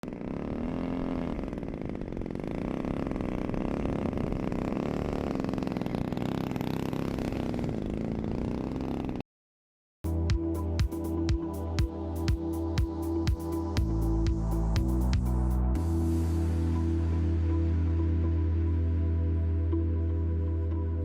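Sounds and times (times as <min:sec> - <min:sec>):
small engine running: 0:00.0 - 0:09.2, 0:10.1 - 0:20.8.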